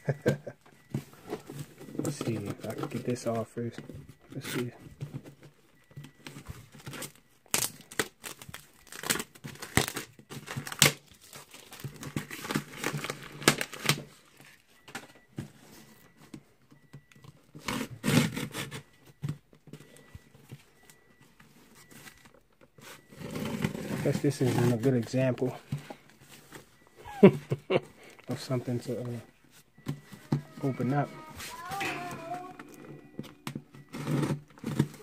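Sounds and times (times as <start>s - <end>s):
tape and plastic crinkling: 0.1s - 27.0s, 28.2s - 35.0s.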